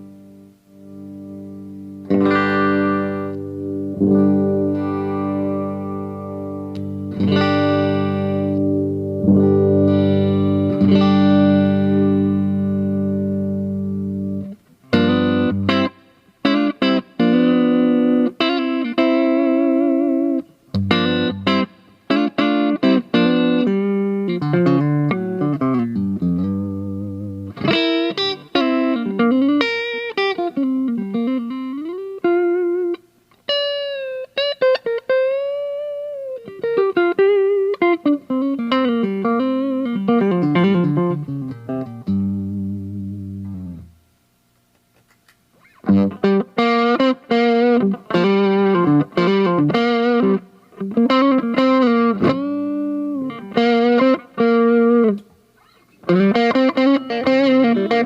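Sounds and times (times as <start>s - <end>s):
electric guitar playing: 0.0s - 44.0s, 45.5s - 58.0s.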